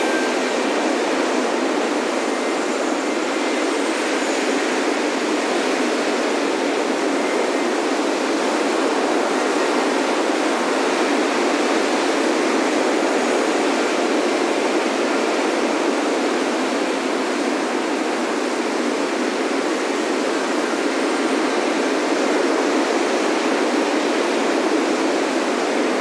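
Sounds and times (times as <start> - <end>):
ocean surf on beach: 0.0 - 26.0.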